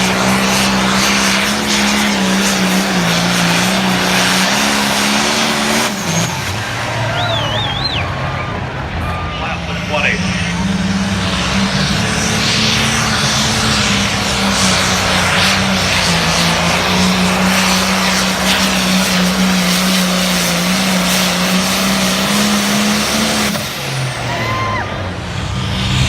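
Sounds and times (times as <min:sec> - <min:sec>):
diesel engine droning under load: 0:00.0 - 0:26.0.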